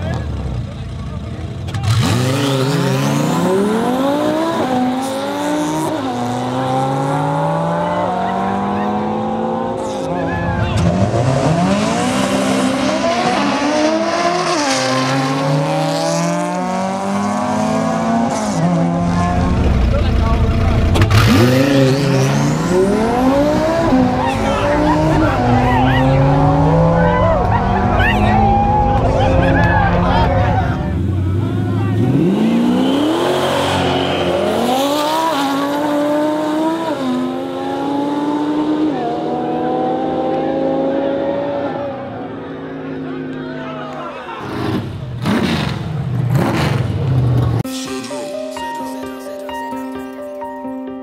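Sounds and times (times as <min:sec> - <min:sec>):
car engine accelerating hard: 0:00.0 - 0:47.7.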